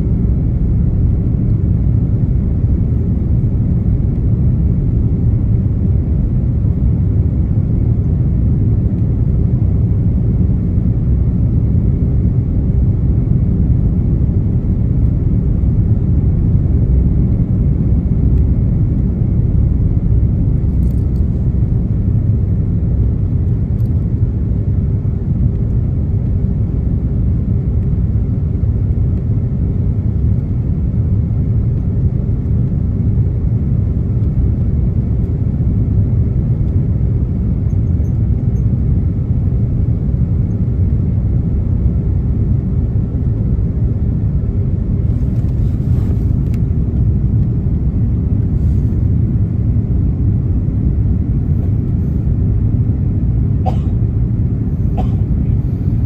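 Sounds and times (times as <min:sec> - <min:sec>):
airliner cabin engine rumble: 0:00.0 - 0:56.0
steady hum: 0:00.0 - 0:56.0.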